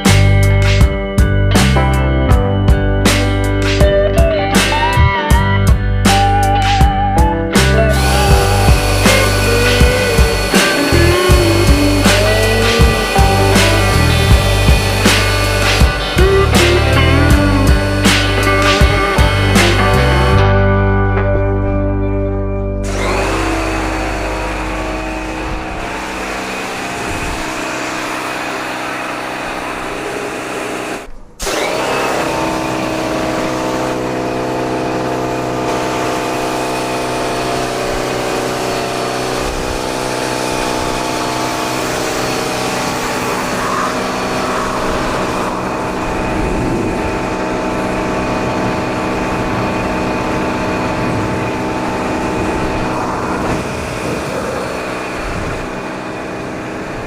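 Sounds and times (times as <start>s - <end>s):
pressure washer motor whine: 3.0s - 20.6s, 22.8s - 57.0s.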